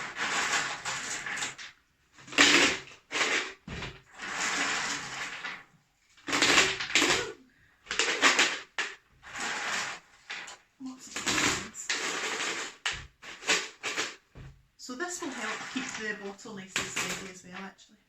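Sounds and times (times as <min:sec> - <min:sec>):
stones rattling in plastic bottle: 0:00.0 - 0:17.6.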